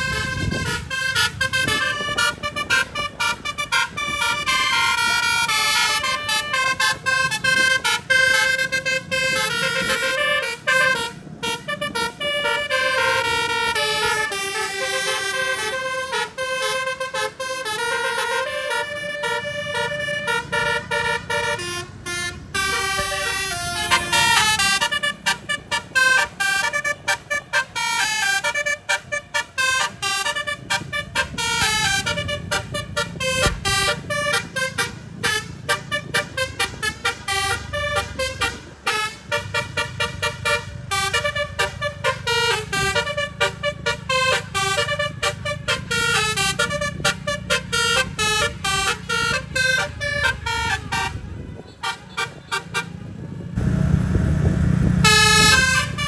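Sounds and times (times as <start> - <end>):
engine and road rumble: 0.0 - 56.0
musical air horn melody: 0.0 - 56.0.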